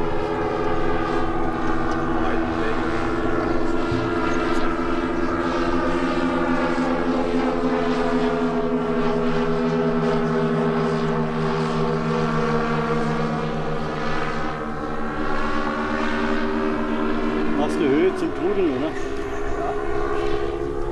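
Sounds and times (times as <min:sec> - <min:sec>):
model airplane engines droning: 0:00.0 - 0:20.9.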